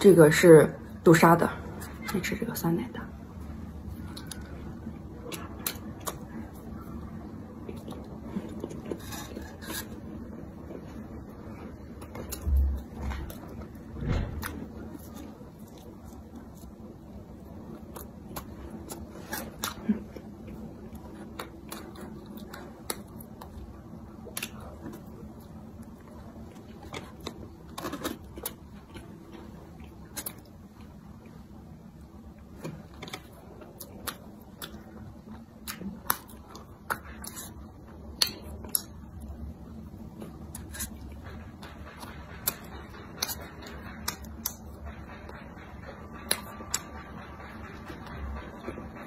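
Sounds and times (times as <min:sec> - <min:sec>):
person chewing bread: 0:03.4 - 0:45.4.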